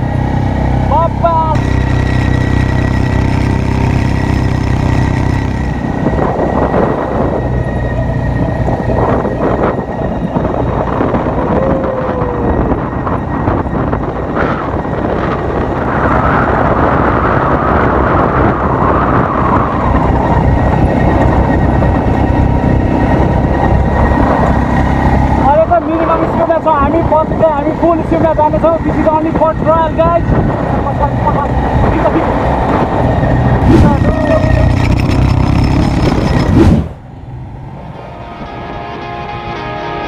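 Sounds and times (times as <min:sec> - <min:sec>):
quad bike engines: 0:00.0 - 0:37.8.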